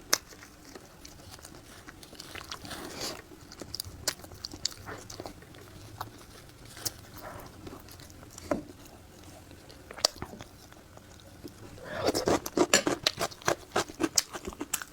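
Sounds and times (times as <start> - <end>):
person chewing food: 0.0 - 14.9.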